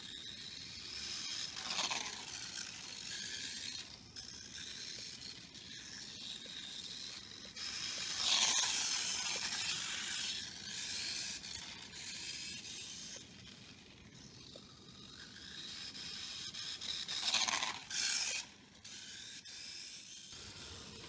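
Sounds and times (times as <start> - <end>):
rc car motor hissing: 0.0 - 21.0.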